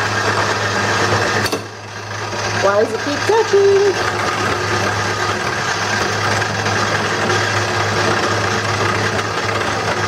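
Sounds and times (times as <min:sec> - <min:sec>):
lathe motor humming: 0:00.0 - 0:10.0
turning tool cutting wood: 0:00.0 - 0:10.0.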